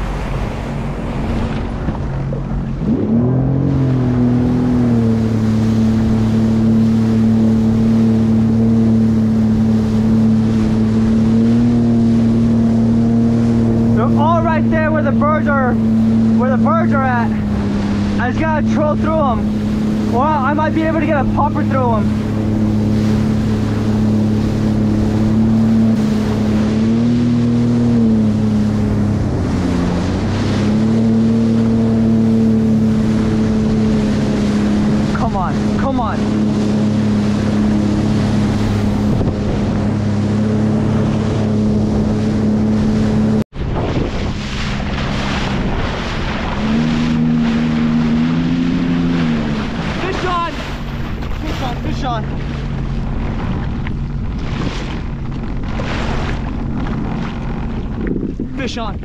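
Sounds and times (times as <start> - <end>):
water rushing: 0.0 - 59.0
watercraft engine running: 0.0 - 59.0
wind: 0.0 - 59.0.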